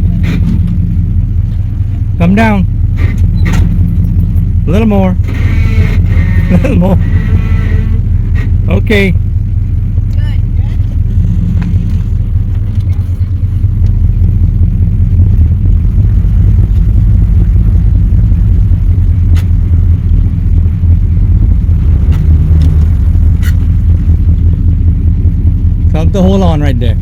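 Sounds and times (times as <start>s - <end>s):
engine running at low speed: 0.0s - 27.0s.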